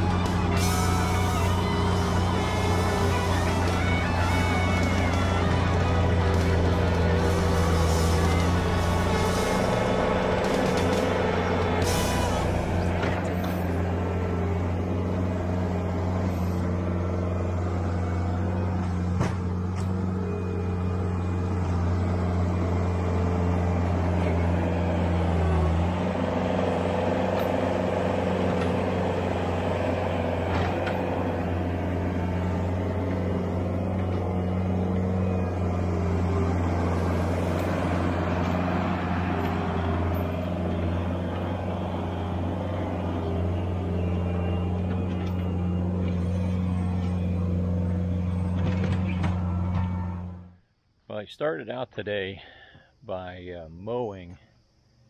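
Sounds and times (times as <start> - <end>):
skid steer loader engine running: 0.0 - 50.7.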